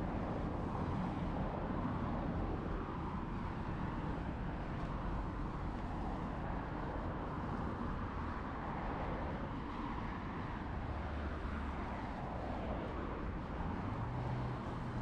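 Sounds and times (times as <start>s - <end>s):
city road traffic rumble: 0.0s - 15.0s.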